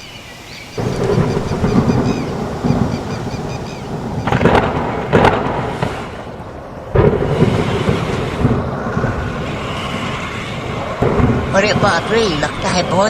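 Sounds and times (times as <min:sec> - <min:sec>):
thunder rumbling: 0:00.0 - 0:13.0
sharp thunder cracks: 0:00.7 - 0:13.0.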